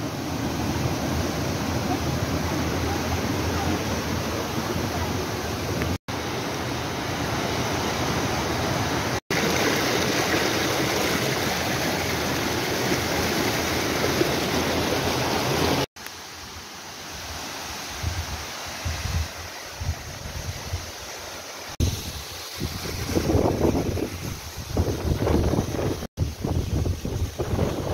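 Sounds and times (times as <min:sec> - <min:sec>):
forest stream and waterfall rushing: 0:00.0 - 0:27.9.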